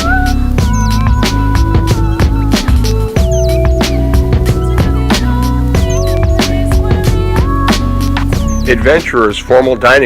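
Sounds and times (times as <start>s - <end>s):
bass line: 0.0s - 9.4s
drum beat: 0.6s - 9.1s.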